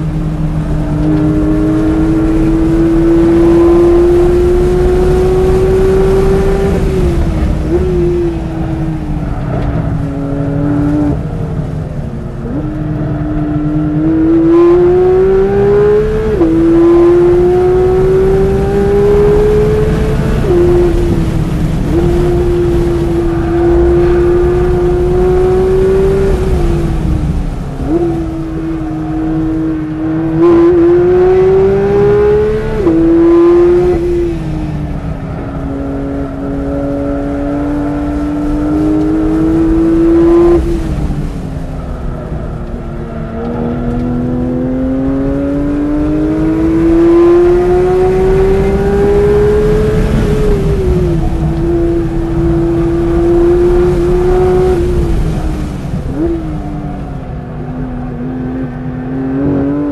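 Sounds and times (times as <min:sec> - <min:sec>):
car engine pulling hard: 0:00.0 - 0:59.9.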